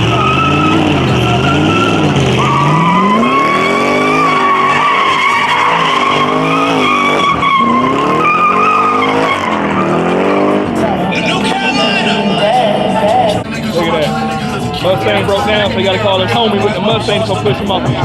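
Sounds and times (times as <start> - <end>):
car engine revving: 0.0 - 18.0
tires squealing: 0.0 - 18.0.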